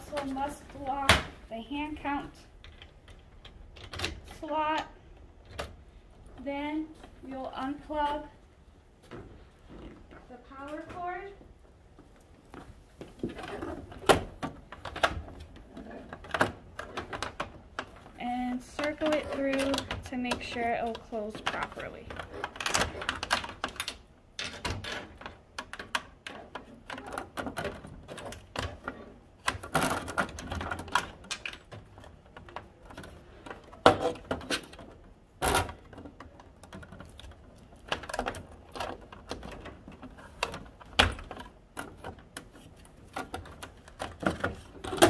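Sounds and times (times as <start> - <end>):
hard plastic parts clicking and rattling: 2.0 - 8.3, 12.0 - 45.0.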